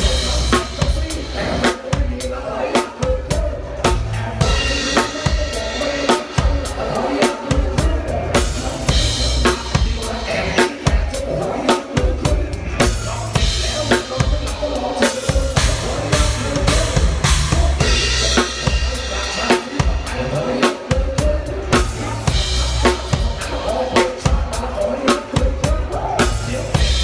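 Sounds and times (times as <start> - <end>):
drum kit beat: 0.0 - 27.0
pop backing music with bass: 0.0 - 27.0.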